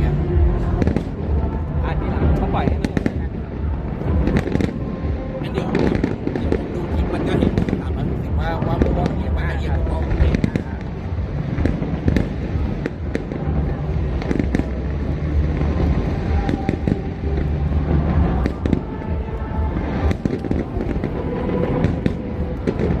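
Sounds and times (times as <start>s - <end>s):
background music: 0.0s - 23.0s
fireworks bangs and crackles: 0.0s - 23.0s
low rumble: 0.0s - 23.0s.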